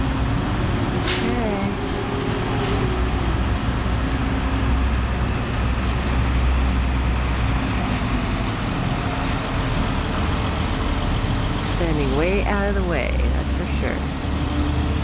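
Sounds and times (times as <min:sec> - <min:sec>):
crane engine rumbling: 0:00.0 - 0:15.0.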